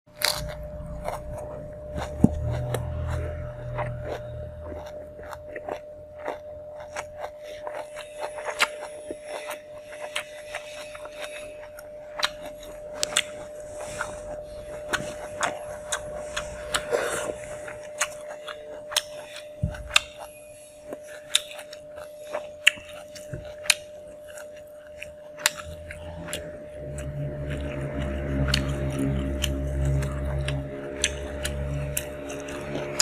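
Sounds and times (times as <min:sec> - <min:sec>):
chewing crunches: 0:00.1 - 0:33.0.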